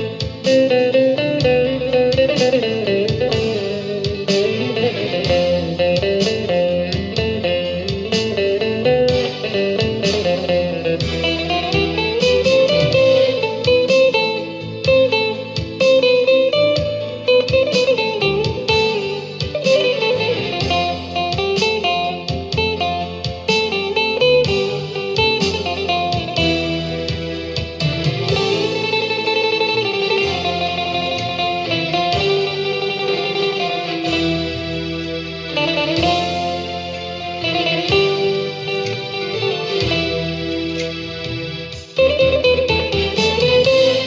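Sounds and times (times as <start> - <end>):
instrumental guitar music: 0.0 - 44.0.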